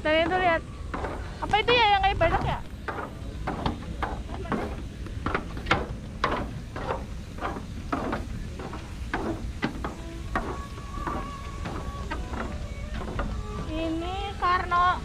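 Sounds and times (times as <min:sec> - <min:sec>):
footsteps on wooden boardwalk: 0:00.0 - 0:15.0
wind rumbling on microphone: 0:00.0 - 0:15.0.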